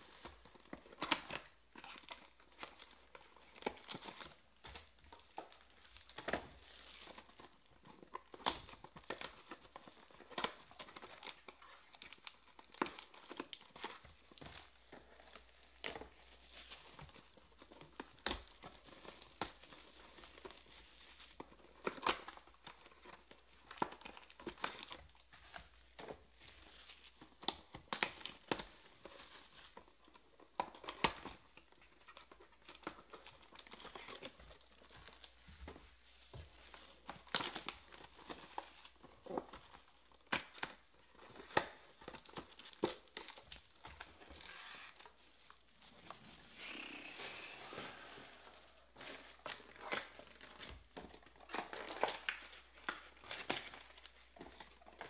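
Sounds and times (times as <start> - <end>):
plastic wrap tearing and crumpling: 0.0 - 35.4, 36.2 - 55.0.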